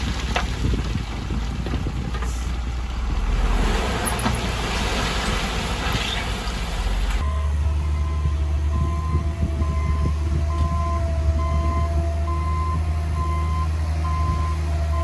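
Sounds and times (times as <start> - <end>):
diesel machinery engine rumbling: 0.0 - 15.0.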